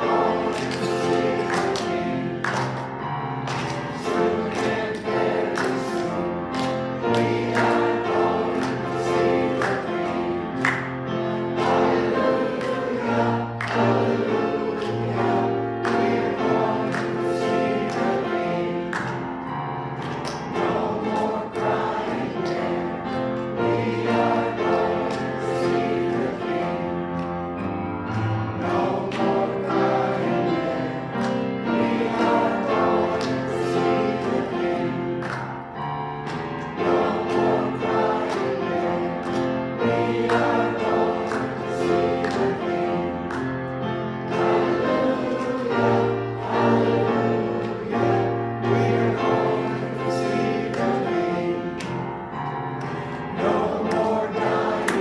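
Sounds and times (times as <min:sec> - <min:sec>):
congregation singing a hymn: 0:00.0 - 0:55.0
instrumental accompaniment: 0:00.0 - 0:55.0.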